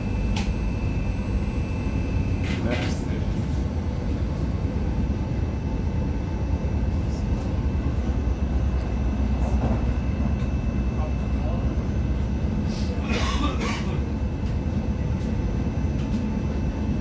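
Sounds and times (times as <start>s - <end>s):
train carriage rumble: 0.0s - 17.0s.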